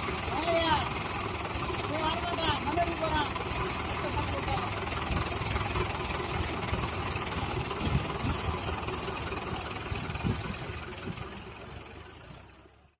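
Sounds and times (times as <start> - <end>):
tractor diesel engine rumbling: 0.0 - 12.9.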